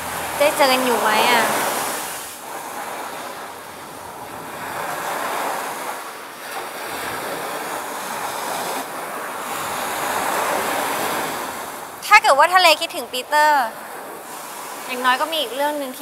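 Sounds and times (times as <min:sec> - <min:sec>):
ocean waves washing on beach: 0:00.0 - 0:16.0.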